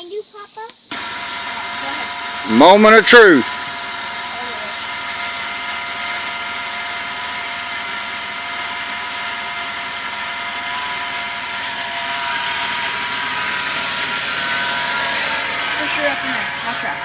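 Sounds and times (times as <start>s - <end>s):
backhoe engine running: 0.9s - 17.0s.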